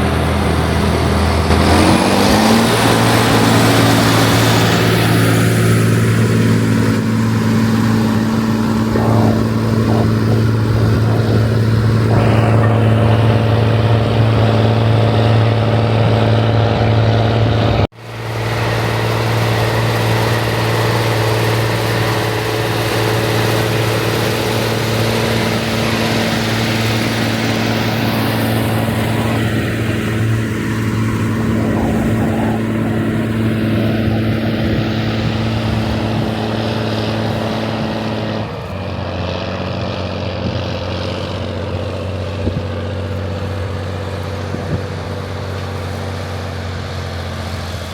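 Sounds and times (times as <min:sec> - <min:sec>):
diesel tractor engine running: 0:00.0 - 0:47.9.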